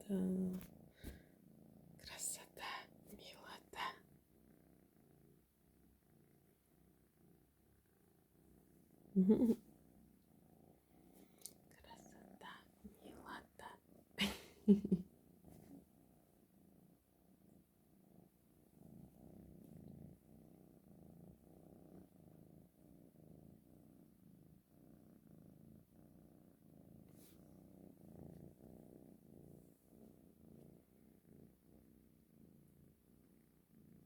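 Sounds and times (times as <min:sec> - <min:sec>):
kitten purring: 0:00.0 - 0:34.0.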